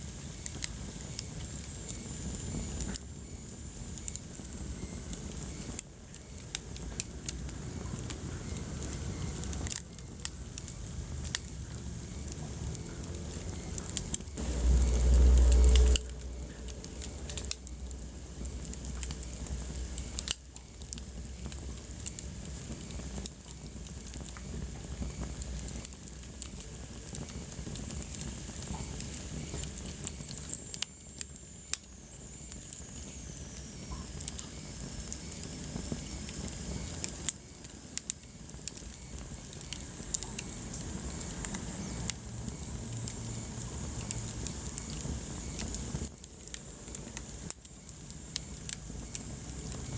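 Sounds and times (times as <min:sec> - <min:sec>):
wood fire crackling: 0:00.0 - 0:49.9
fire pops and snaps: 0:00.2 - 0:49.9.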